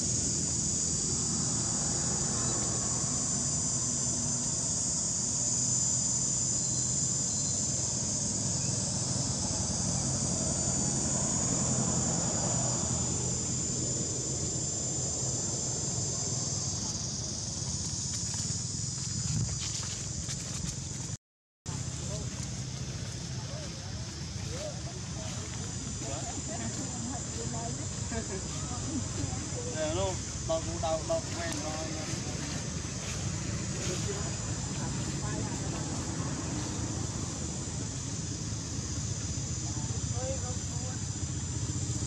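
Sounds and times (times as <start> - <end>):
insect chorus chirring: 0.0 - 42.0.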